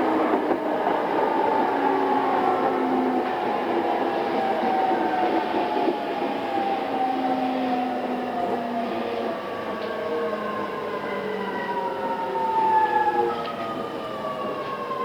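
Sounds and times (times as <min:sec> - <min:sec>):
train wheel and running noise: 0:00.0 - 0:12.8.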